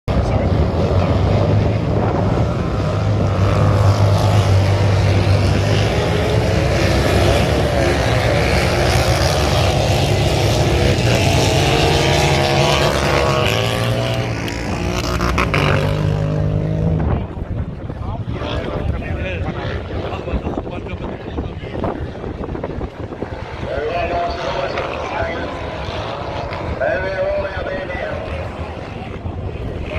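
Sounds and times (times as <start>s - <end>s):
wind noise: 0.1s - 29.9s.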